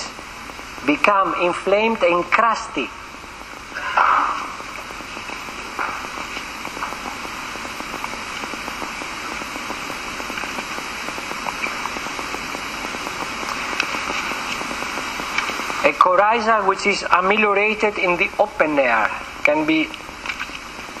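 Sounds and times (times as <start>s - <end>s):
crackling hiss: 0.0s - 21.0s.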